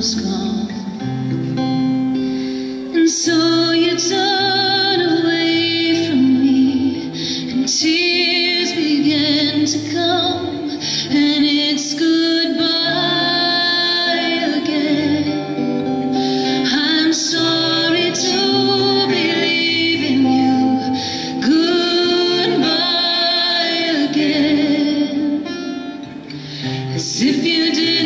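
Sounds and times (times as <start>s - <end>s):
woman singing with vibrato: 0.0s - 1.3s, 2.8s - 28.0s
strummed acoustic guitar: 0.0s - 28.0s.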